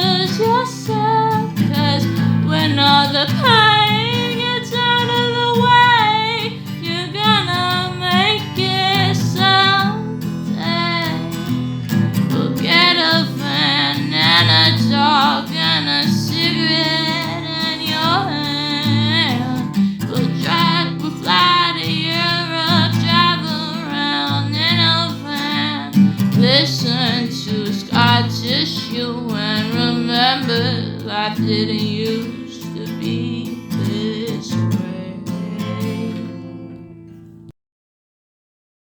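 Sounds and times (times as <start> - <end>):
woman singing with vibrato: 0.0 - 36.8
acoustic guitar: 0.0 - 37.5.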